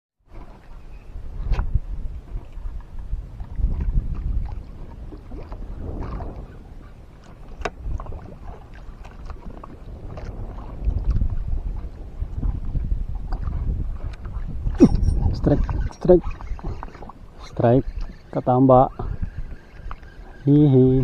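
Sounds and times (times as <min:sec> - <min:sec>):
water sloshing: 0:00.3 - 0:21.0
wind buffeting microphone: 0:00.3 - 0:21.0.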